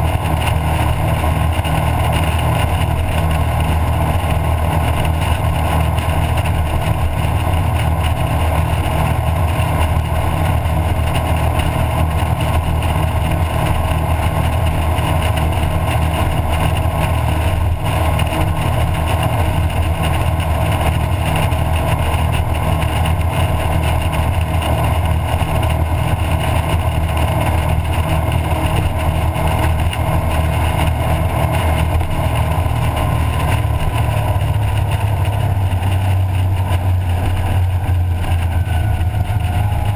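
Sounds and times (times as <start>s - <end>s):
churning wake rushing: 0.0s - 39.9s
powerboat engines at full throttle: 0.0s - 39.9s.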